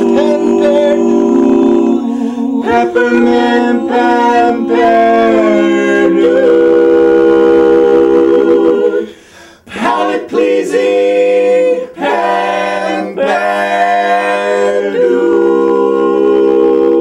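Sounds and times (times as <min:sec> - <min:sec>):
men singing a cappella: 0:00.0 - 0:17.0.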